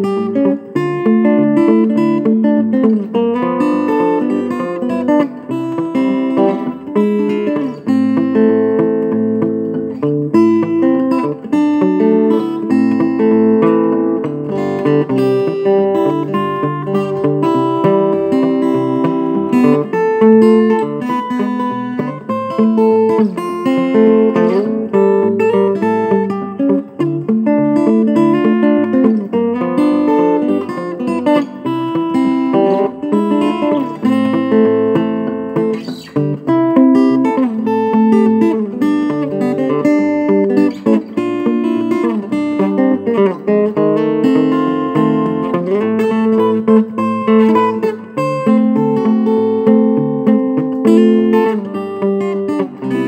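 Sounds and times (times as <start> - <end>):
fingerstyle acoustic guitar: 0.0 - 53.0.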